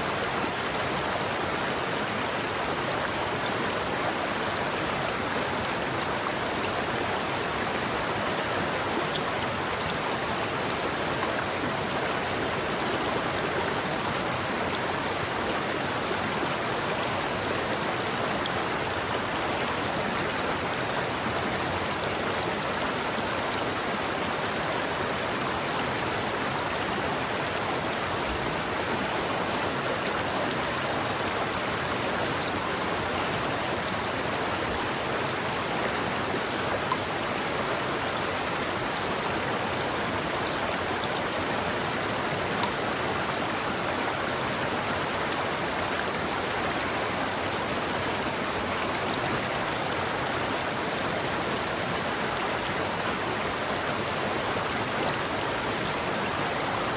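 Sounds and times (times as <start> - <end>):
river water flowing over rocks: 0.0 - 56.9.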